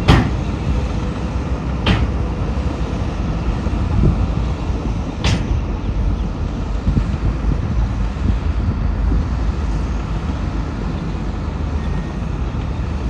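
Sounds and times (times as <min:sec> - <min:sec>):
heavy machinery diesel rumble: 0:00.0 - 0:13.0.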